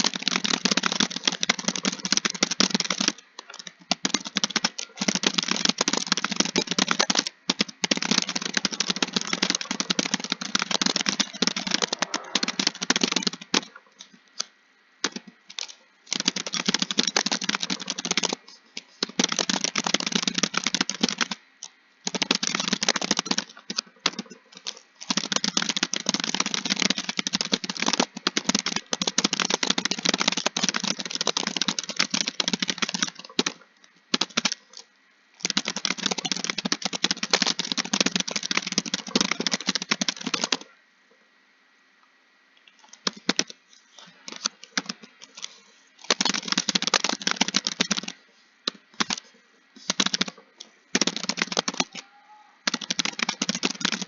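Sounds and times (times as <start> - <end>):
fast typing on a keyboard: 0.0 - 13.7, 14.4 - 21.4, 22.0 - 40.7, 42.8 - 52.0, 52.6 - 54.0.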